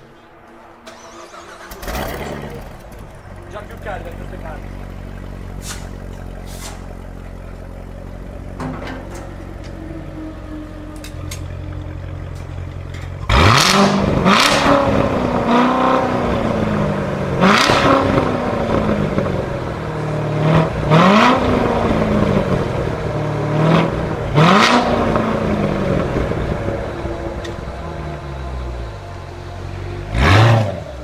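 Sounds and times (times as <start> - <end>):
car engine revving: 0.0 - 31.0
exhaust cracks: 0.1 - 29.3.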